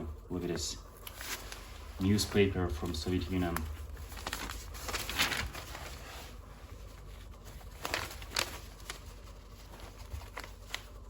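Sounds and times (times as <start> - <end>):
newspaper rustling: 0.6 - 11.0.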